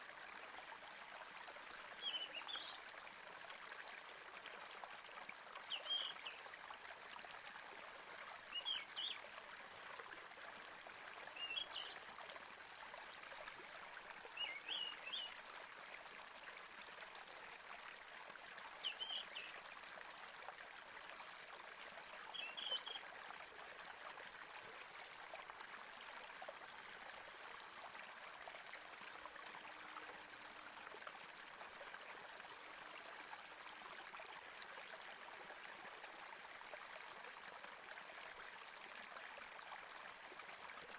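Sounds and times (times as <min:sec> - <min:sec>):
running water stream: 0:00.0 - 0:40.9.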